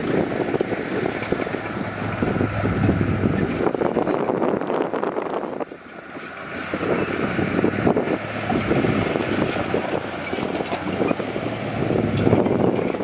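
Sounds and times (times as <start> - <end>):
heavy diesel machinery hum: 0.0 - 13.0.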